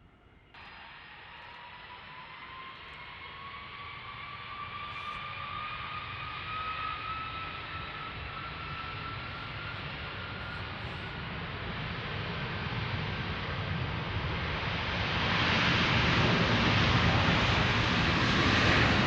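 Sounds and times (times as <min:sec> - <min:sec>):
jet engines spooling up: 0:00.6 - 0:19.0.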